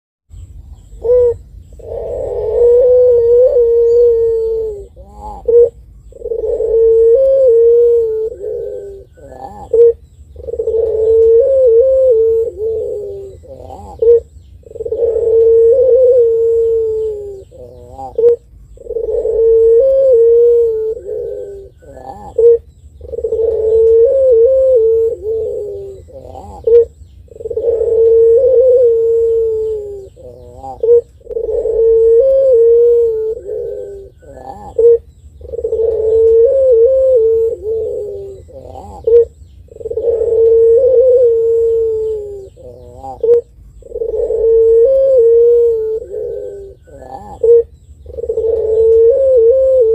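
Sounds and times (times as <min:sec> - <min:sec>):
dove cooing: 0:00.4 - 0:49.9.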